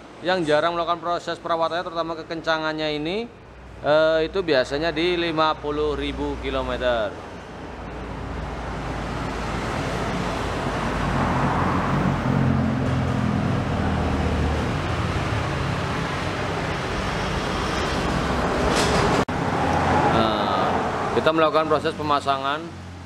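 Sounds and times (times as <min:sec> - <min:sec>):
vehicle rumble and hiss: 0:00.0 - 0:23.0.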